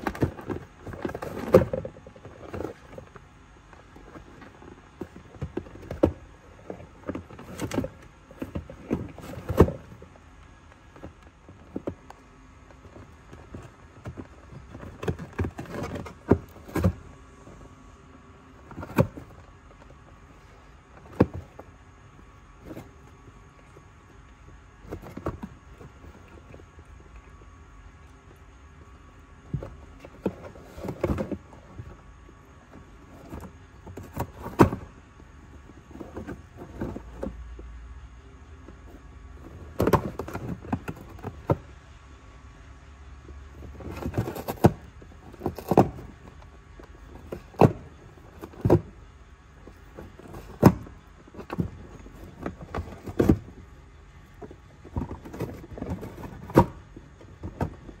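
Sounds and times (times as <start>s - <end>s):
cat clawing cardboard box: 0.0s - 17.8s, 18.5s - 27.5s, 29.0s - 37.6s, 38.7s - 41.8s, 43.6s - 58.0s.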